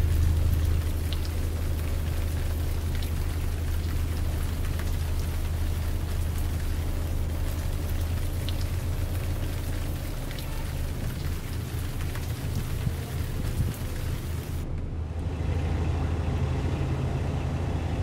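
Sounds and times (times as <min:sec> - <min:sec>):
drops ticking: 0:00.0 - 0:14.6
steady low hum: 0:00.0 - 0:16.2
rain on steel: 0:00.0 - 0:17.9.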